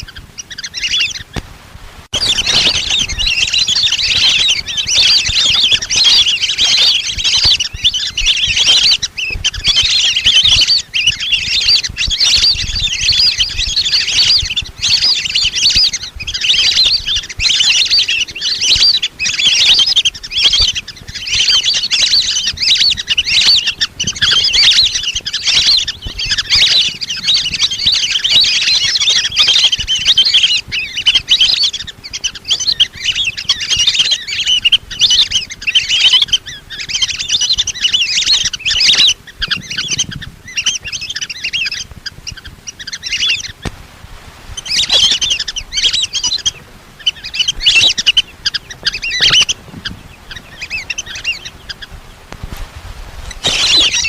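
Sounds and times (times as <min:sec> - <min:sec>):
whistling ducks calling: 0:00.0 - 0:01.4, 0:02.1 - 0:43.7, 0:44.5 - 0:52.3, 0:53.3 - 0:54.0.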